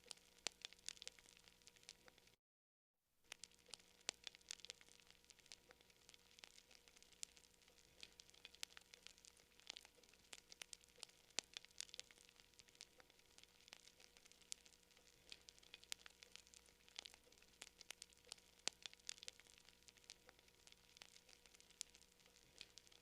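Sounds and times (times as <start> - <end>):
campfire crackling: 0.0 - 2.4, 3.3 - 23.0.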